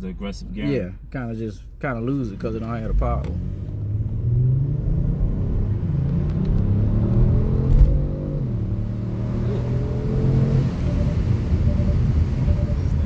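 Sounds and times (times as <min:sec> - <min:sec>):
car engine accelerating: 0:02.3 - 0:13.0.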